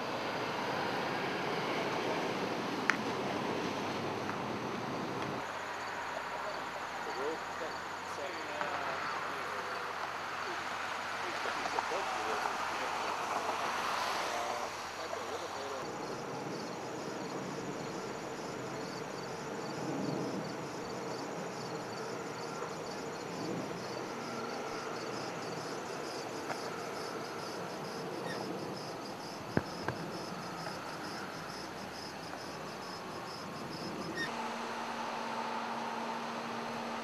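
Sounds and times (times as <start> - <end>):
crickets chirping: 0.0 - 37.0
low traffic hum: 0.0 - 37.0.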